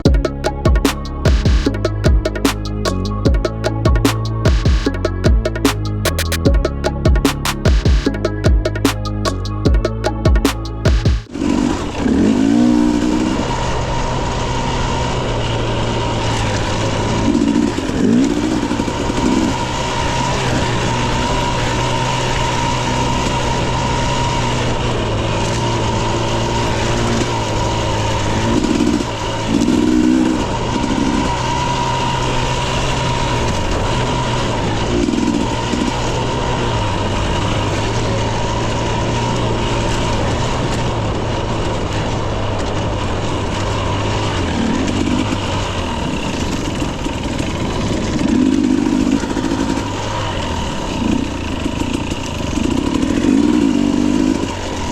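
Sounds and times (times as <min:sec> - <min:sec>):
dirt bike engine running: 0:00.0 - 0:54.9.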